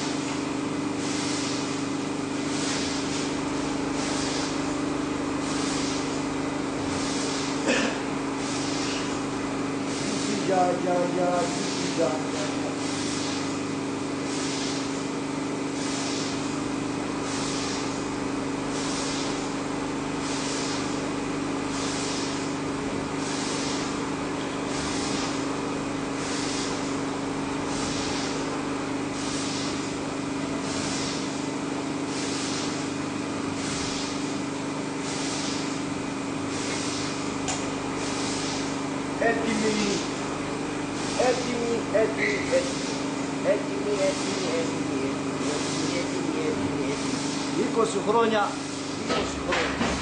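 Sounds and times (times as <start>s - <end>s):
machine hum: 0.0s - 50.0s
pulsing hiss: 1.0s - 1.8s, 2.4s - 16.6s, 17.2s - 19.6s, 20.2s - 35.8s, 36.5s - 40.2s, 40.8s - 49.6s.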